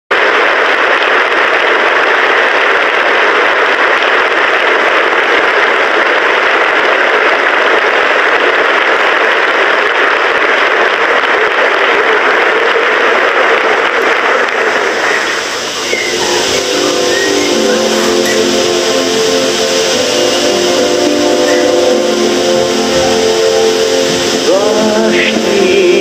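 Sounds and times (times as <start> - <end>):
large audience applauding: 0.1 - 26.0.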